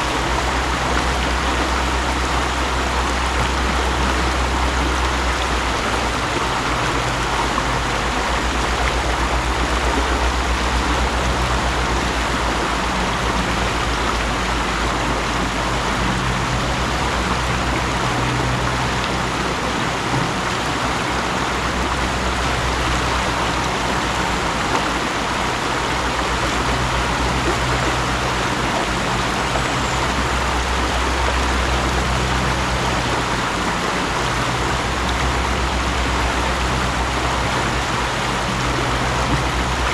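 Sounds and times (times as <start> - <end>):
low rumble: 0.0 - 39.9
mountain stream flowing: 0.0 - 39.9.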